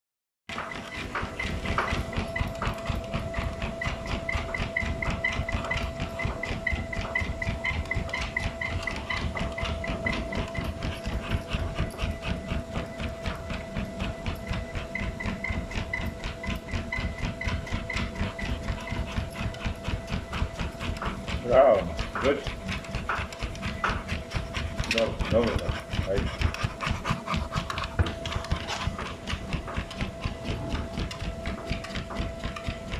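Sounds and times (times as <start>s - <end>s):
dog paws striking belt: 0.5s - 32.9s
treadmill whine: 0.5s - 32.9s
dog panting: 0.6s - 32.9s.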